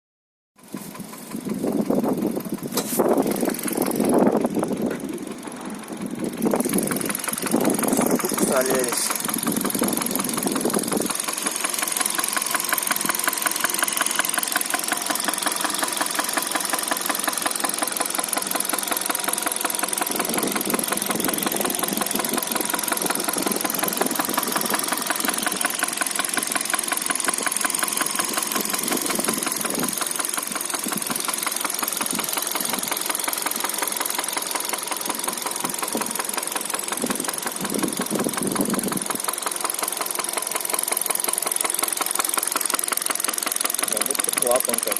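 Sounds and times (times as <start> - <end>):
car engine running: 0.6 - 44.9
fast even engine knock: 0.6 - 44.9.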